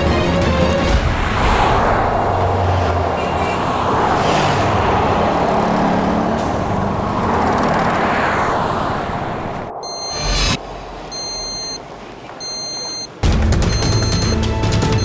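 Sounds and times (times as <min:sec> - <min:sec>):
road traffic rush: 0:00.0 - 0:15.0.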